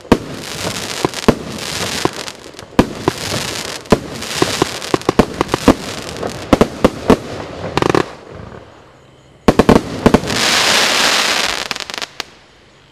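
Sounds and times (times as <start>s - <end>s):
firework bangs: 0.0s - 8.7s, 9.5s - 12.3s
firework hiss: 0.0s - 8.9s, 9.5s - 12.5s.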